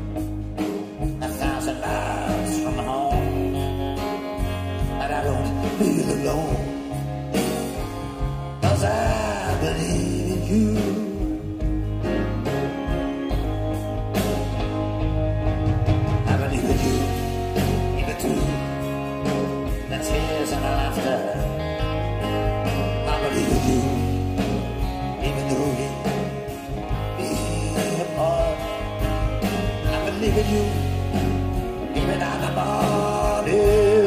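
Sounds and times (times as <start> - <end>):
country band playing: 0.0 - 34.0.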